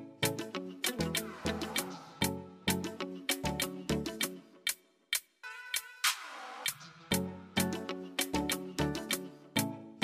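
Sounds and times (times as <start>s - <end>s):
background music with plucked notes: 0.0s - 10.0s.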